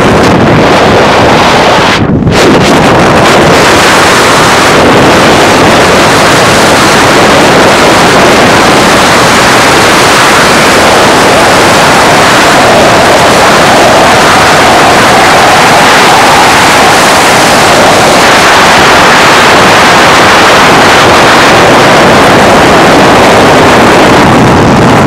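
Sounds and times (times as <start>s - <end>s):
wind and road noise: 0.0s - 25.0s
wind buffeting microphone: 0.0s - 25.0s.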